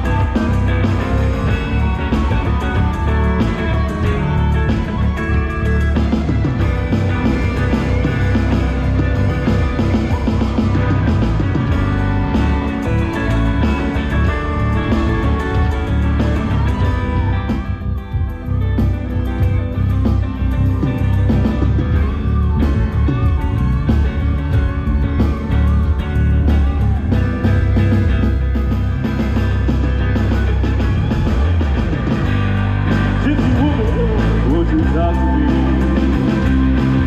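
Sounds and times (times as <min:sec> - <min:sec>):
lead guitar with bent notes: 0:00.0 - 0:37.0
live rock band playing: 0:00.0 - 0:37.0.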